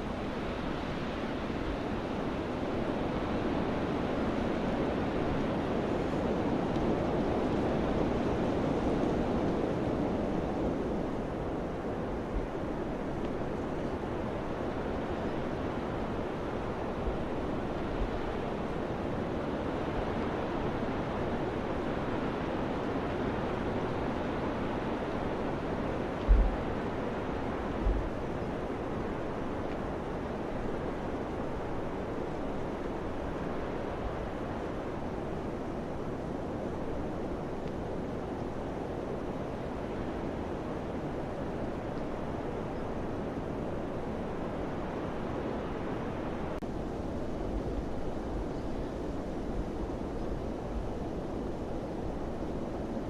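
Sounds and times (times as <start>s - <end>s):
gusts buffeting microphone: 0.0s - 53.0s
steady rushing wind: 0.0s - 53.0s.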